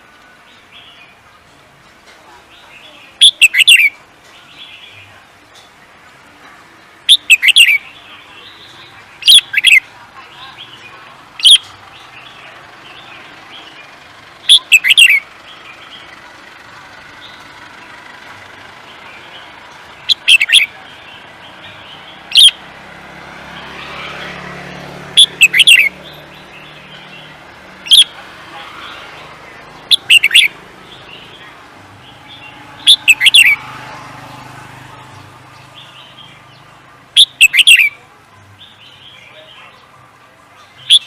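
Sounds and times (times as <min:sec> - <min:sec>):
songbird chirping: 0:00.0 - 0:41.0.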